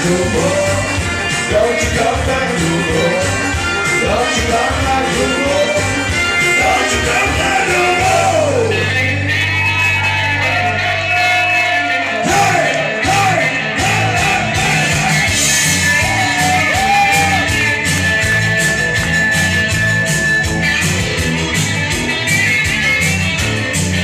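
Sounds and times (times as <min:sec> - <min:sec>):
bass and drums beat: 0:00.0 - 0:11.0, 0:12.2 - 0:24.0
live band playing loud music: 0:00.0 - 0:24.0.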